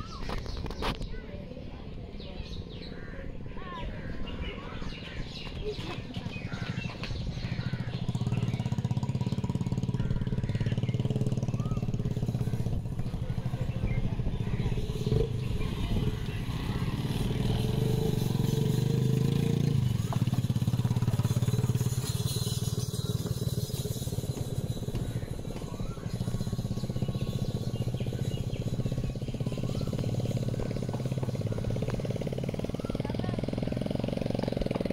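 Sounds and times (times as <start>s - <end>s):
motorcycle engine running: 2.3s - 34.9s.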